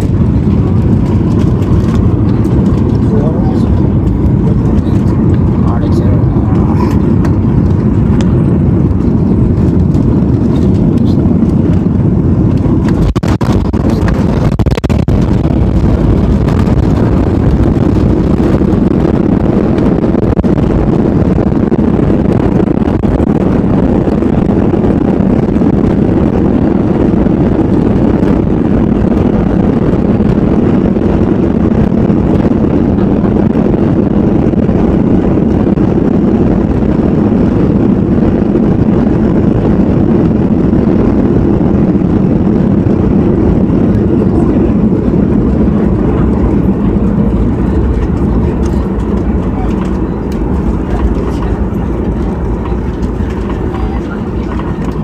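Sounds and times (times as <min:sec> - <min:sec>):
jet engine and airflow rush: 0:00.0 - 0:55.0.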